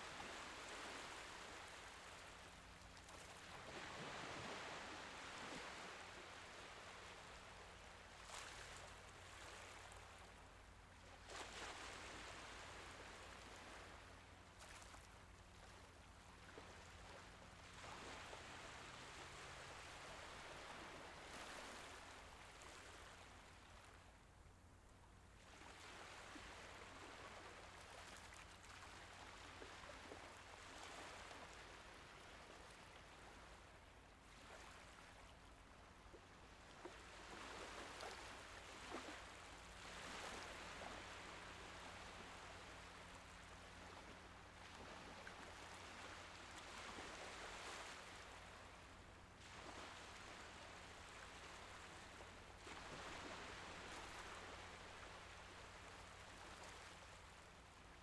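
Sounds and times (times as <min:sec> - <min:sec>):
faint gentle sea waves: 0:00.0 - 0:58.0.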